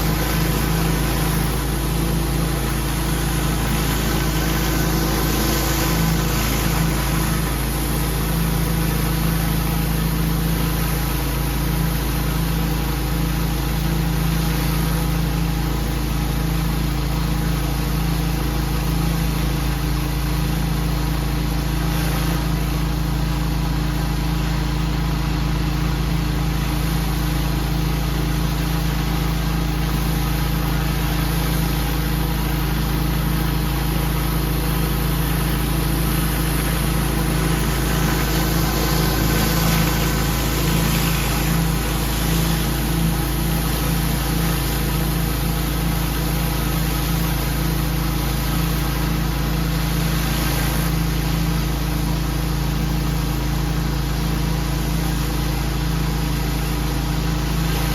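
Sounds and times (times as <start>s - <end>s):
pressure washer engine running: 0.0s - 57.9s.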